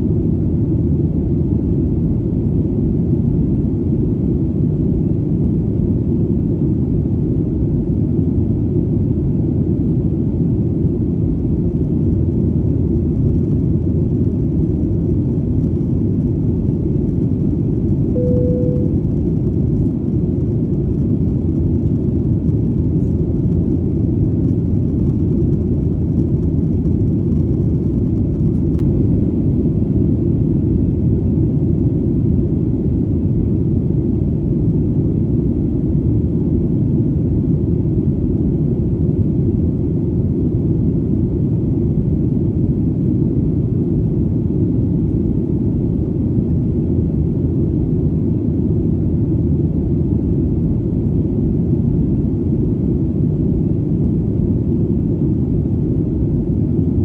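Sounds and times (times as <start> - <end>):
airplane engine rumble: 0.0 - 57.0.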